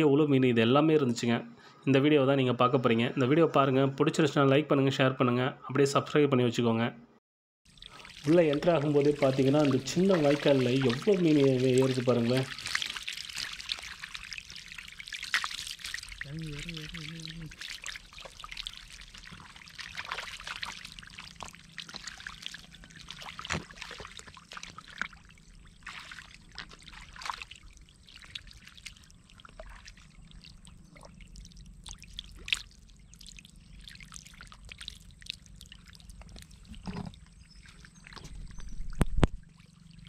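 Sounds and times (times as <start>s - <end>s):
fish splashing in water: 7.7s - 40.0s
trickling water: 7.7s - 40.0s.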